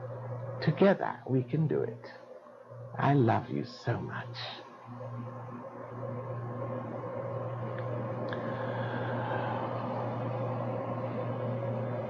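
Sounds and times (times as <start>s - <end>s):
background hiss: 0.0s - 12.0s
low hum: 0.0s - 12.0s.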